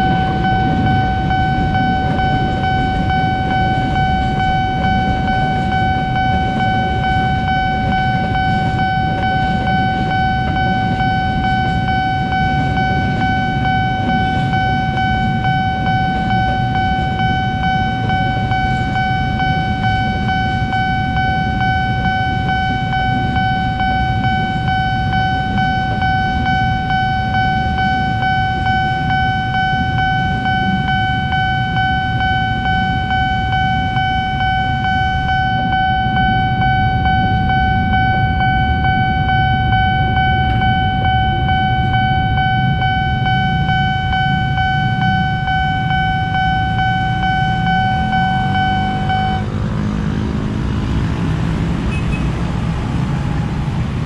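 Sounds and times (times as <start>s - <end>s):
level crossing alarm tone: 0.0s - 54.0s
motorcycle engines idling: 0.0s - 54.0s.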